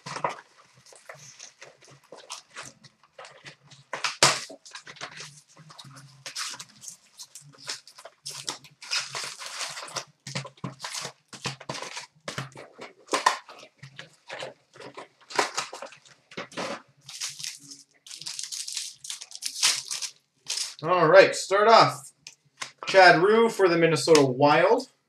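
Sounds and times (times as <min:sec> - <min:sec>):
card pack wrappers crinkling and tearing: 0:00.0 - 0:20.8.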